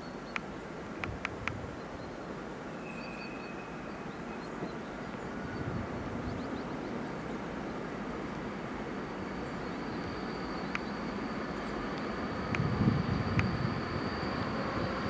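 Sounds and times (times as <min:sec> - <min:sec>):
faint high whine: 0:00.0 - 0:15.0
freight train rumble: 0:00.0 - 0:15.0.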